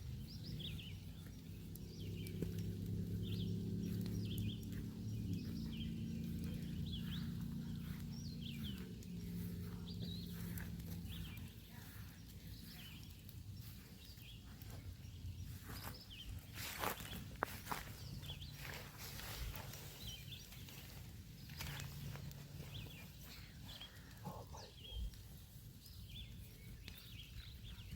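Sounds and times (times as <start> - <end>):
bird chirping: 0.0 - 27.9
low engine-like hum: 0.0 - 27.9.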